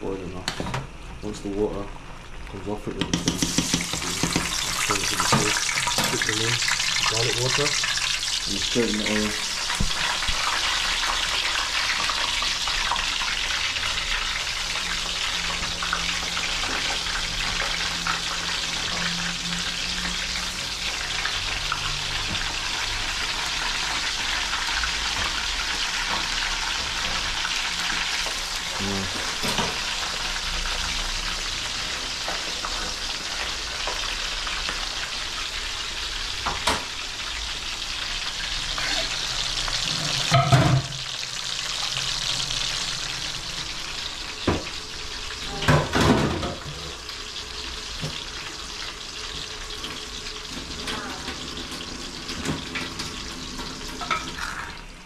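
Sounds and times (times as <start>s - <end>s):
plantain slices sizzling in oil: 3.2s - 45.7s, 46.6s - 55.0s.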